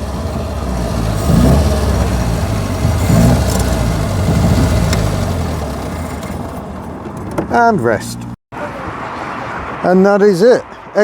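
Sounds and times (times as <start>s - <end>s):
small car engine rumbling: 0.0s - 8.9s.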